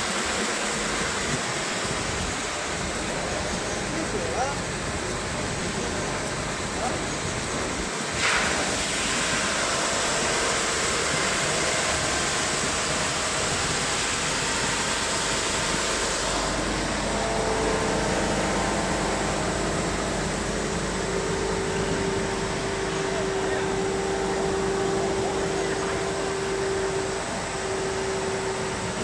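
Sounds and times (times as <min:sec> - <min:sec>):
sanding machine running: 0:00.0 - 0:29.0.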